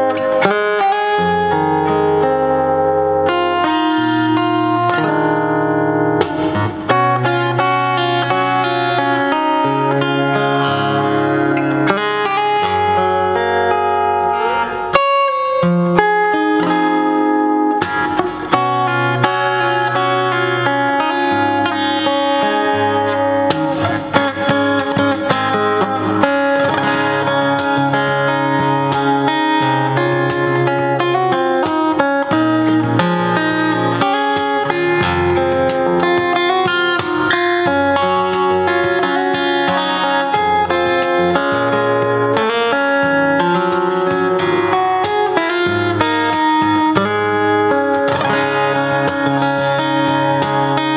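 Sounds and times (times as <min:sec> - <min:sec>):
fingerstyle acoustic guitar: 0:00.0 - 0:50.9.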